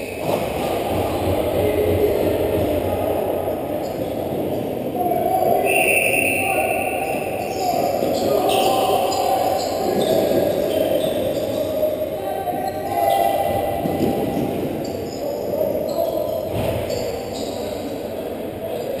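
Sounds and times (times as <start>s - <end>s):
indistinct shouting and chatter: 0.0s - 19.0s.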